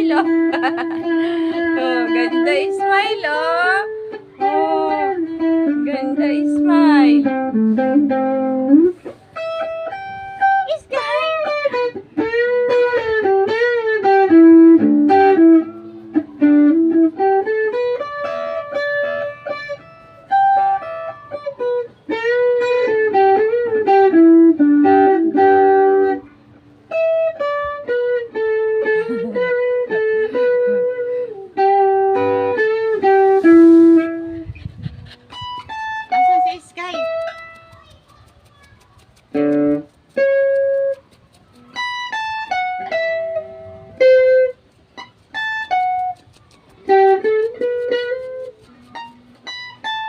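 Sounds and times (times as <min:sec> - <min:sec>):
plucked guitar melody: 0:00.0 - 0:50.0.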